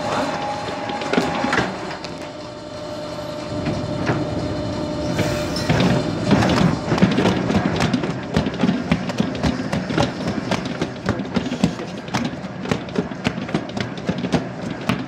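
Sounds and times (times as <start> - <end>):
mixer motor whining: 0.0 - 15.0.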